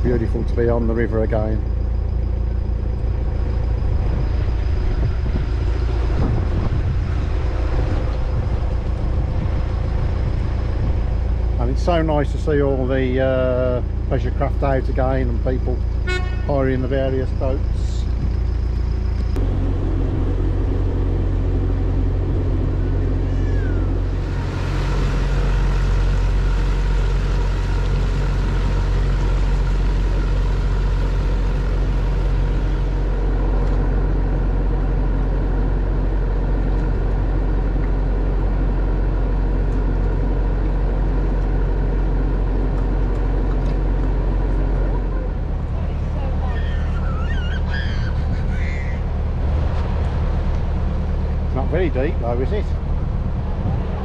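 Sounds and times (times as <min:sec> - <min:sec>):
boat diesel engine running: 0:00.0 - 0:54.0.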